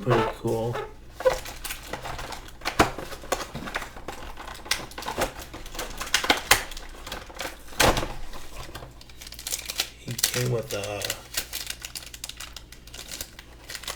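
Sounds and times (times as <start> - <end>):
plastic packaging clicks and crinkles: 0.0 - 13.9.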